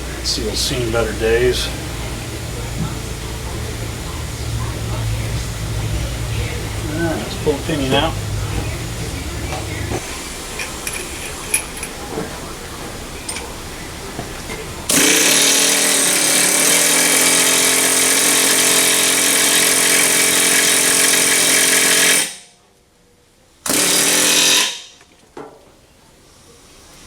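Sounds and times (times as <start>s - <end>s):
power tool hammering: 0.0s - 12.4s, 14.1s - 22.5s, 23.7s - 25.0s.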